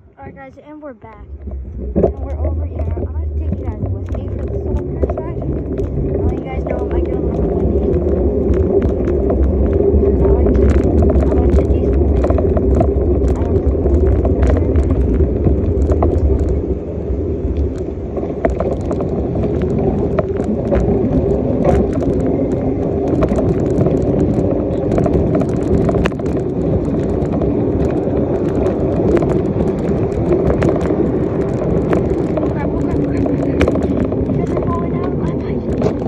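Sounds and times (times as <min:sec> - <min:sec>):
bicycle riding rumble: 0:00.0 - 0:36.0
bicycle rattles and clicks: 0:01.1 - 0:36.0.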